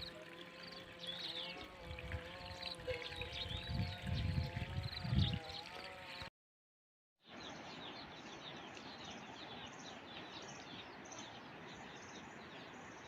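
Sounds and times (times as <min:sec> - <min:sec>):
small birds chirping: 0:00.0 - 0:06.3, 0:07.3 - 0:13.0.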